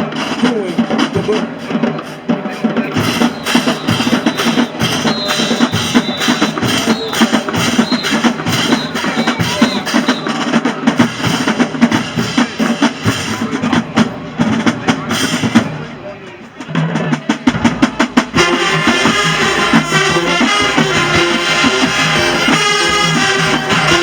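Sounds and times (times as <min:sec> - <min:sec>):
bass drums and snares: 0:00.0 - 0:24.0
marching band playing: 0:00.0 - 0:24.0.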